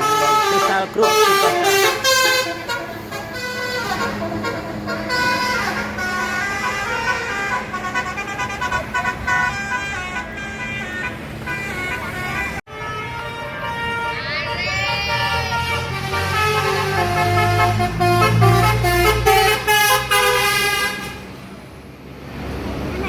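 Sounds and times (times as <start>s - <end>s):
bus horn playing a tune: 0.0s - 21.4s
bus engine running: 0.0s - 23.0s.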